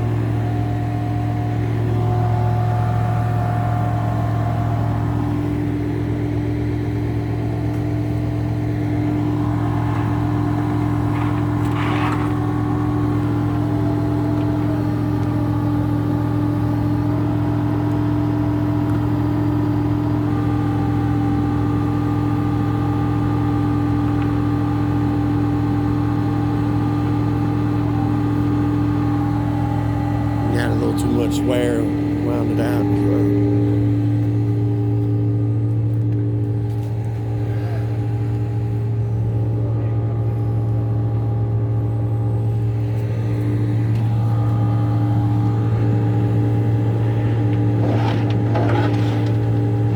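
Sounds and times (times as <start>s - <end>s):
truck engine humming: 0.0s - 49.9s.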